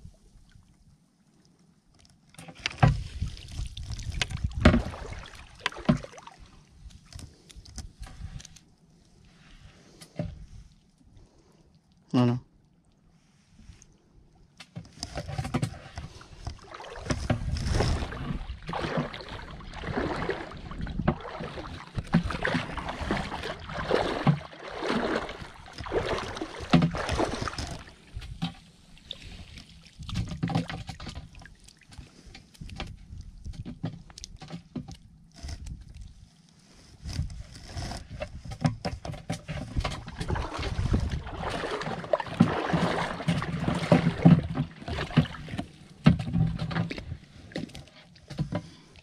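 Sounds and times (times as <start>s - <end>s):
shallow water splashing: 0.0s - 8.5s, 15.1s - 37.4s, 39.5s - 49.0s.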